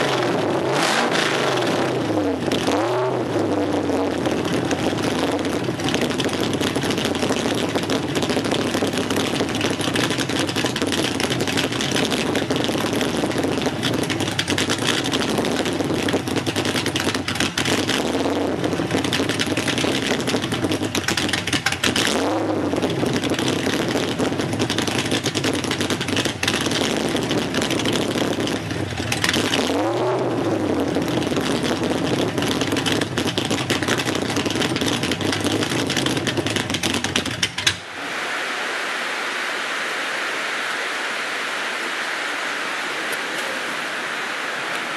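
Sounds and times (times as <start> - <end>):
car engine idling and revving: 0.0 - 38.4.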